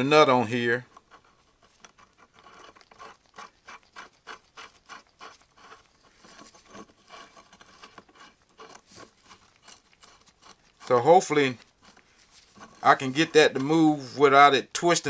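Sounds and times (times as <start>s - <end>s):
small metallic clicks and scraping: 0.5s - 13.8s.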